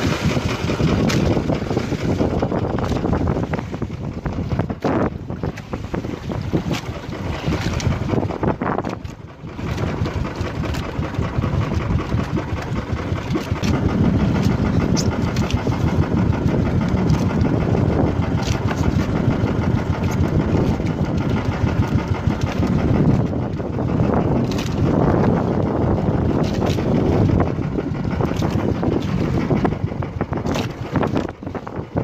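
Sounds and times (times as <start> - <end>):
boat engine rumbling: 0.0 - 32.0.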